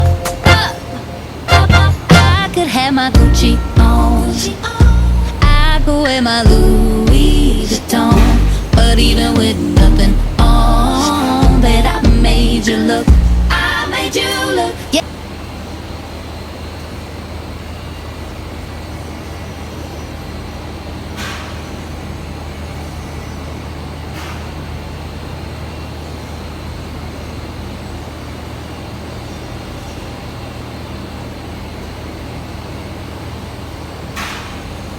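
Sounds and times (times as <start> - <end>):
industrial machinery hum: 0.0 - 34.9.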